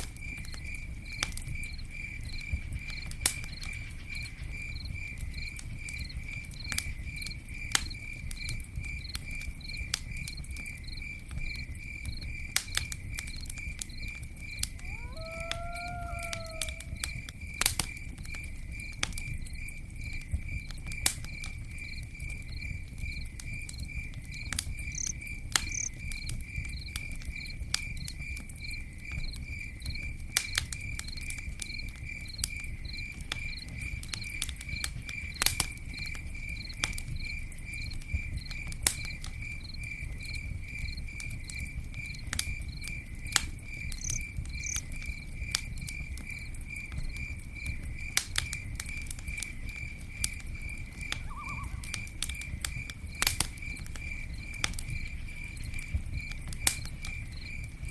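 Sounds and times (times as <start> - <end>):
campfire crackling and popping: 0.0 - 57.9
cricket chirping: 0.0 - 57.9.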